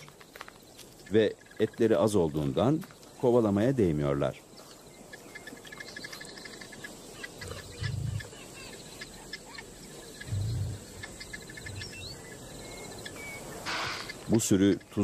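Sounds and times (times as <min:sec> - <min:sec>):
birds chirping: 0:00.0 - 0:15.0
insects trilling: 0:00.0 - 0:15.0.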